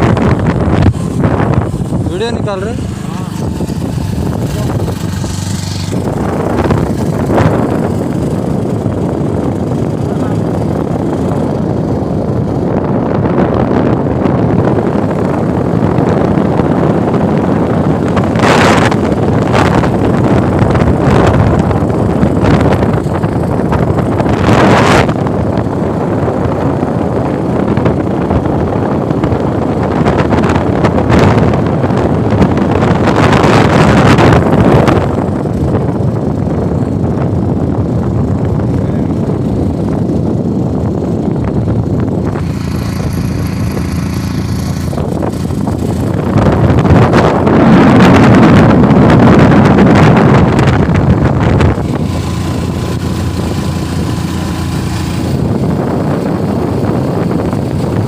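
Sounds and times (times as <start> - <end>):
vehicle running noise: 0.0 - 58.0
wind buffeting microphone: 0.0 - 58.0.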